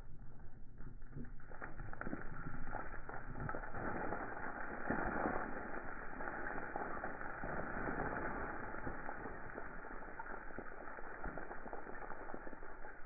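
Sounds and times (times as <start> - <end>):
earth and stones pouring down: 0.0 - 13.0
falling stones clattering: 1.1 - 13.0.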